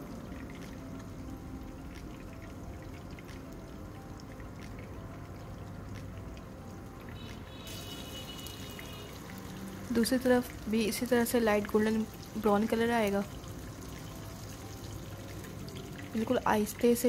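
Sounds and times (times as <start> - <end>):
fish sizzling in oil: 0.0 - 17.0
soft background music: 0.0 - 17.0.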